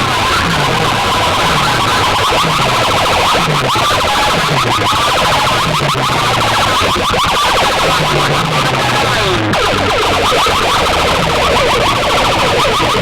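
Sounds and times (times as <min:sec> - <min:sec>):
bass line dropping in pitch: 0:00.0 - 0:13.0
warbling siren effect: 0:00.0 - 0:13.0.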